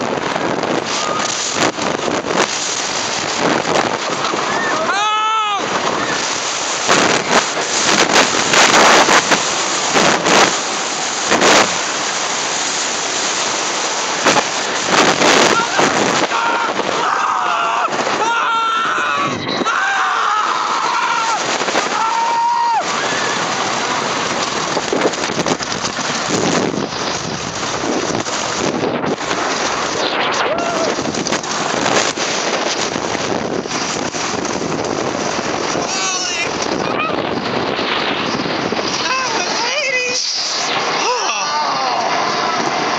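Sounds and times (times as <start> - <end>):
roller coaster train rumble: 0.0 - 42.9
wind rushing over microphone: 0.0 - 42.9.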